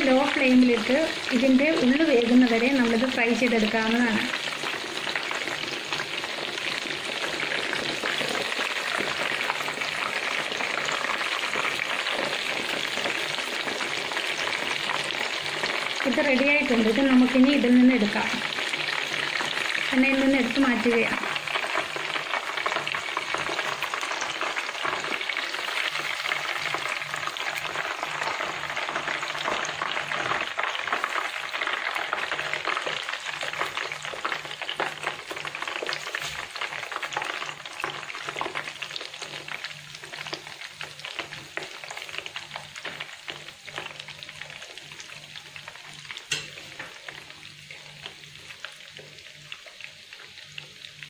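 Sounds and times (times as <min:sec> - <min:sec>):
chicken sizzling in hot oil: 0:00.0 - 0:51.0.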